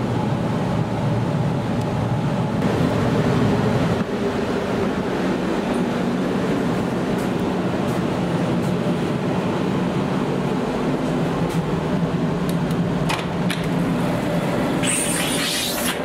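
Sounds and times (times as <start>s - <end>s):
train carriage hum: 0.0s - 16.0s.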